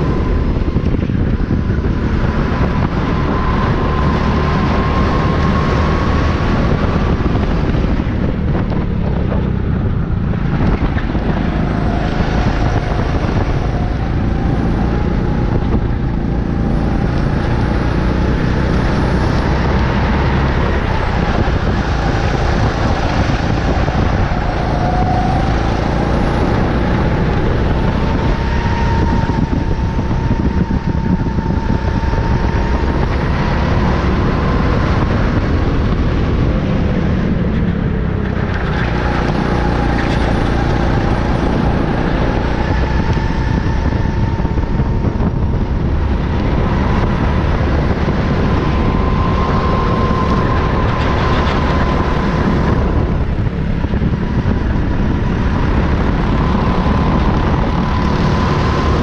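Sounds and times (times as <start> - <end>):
go-kart engine racing: 0.0 - 59.0
heavy low rumble: 0.0 - 59.0.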